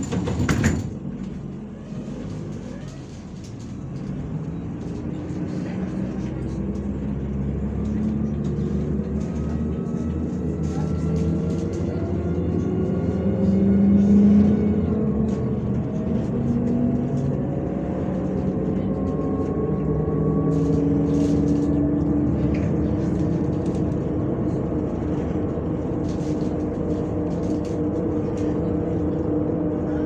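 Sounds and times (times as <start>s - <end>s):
bus diesel engine running: 0.0s - 30.0s.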